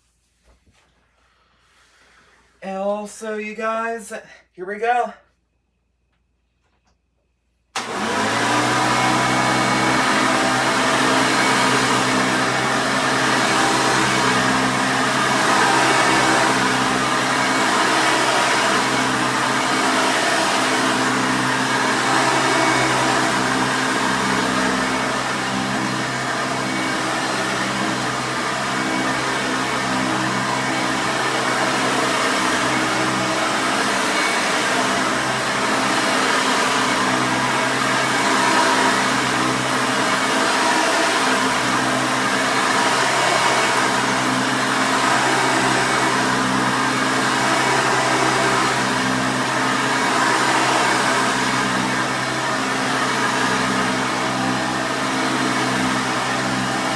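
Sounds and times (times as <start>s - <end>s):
vacuum cleaner running: 7.8s - 56.9s.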